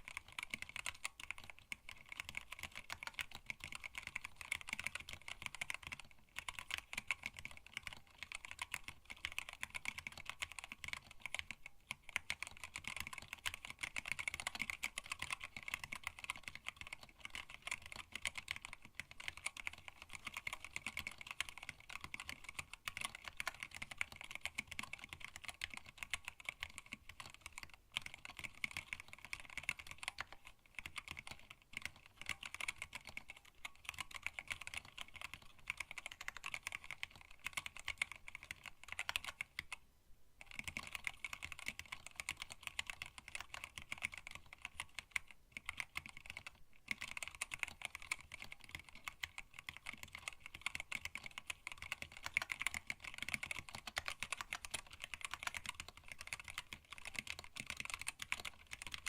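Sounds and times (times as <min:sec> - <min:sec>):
mechanical keyboard typing: 0:00.0 - 0:39.8, 0:40.4 - 0:59.0.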